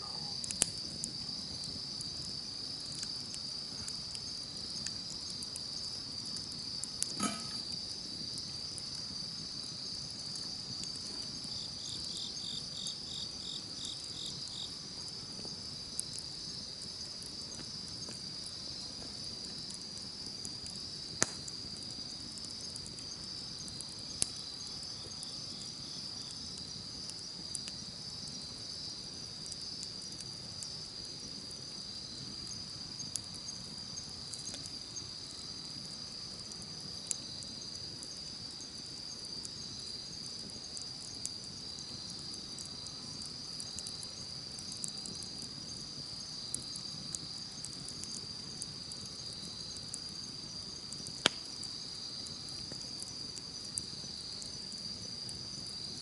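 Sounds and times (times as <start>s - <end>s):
campfire crackling pops: 0.0s - 56.0s
campfire hiss: 0.0s - 56.0s
crickets trilling: 0.0s - 56.0s
insect chirping in pulsing run: 0.0s - 56.0s.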